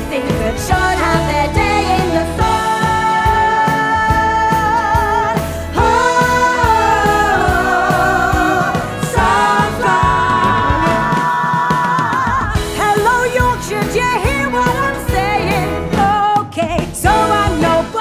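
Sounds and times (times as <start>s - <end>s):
backing music: 0.0s - 18.0s
women singing with vibrato: 0.0s - 18.0s.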